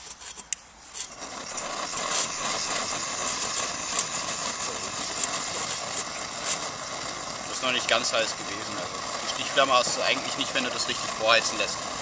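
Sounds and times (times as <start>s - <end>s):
stove burner rushing hiss: 0.8s - 12.0s.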